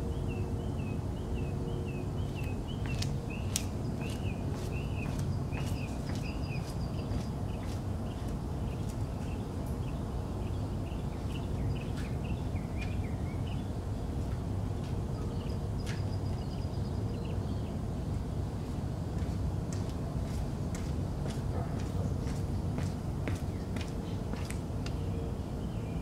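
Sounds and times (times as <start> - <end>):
steady low rumble: 0.0 - 26.0
small birds chirping: 0.1 - 26.0.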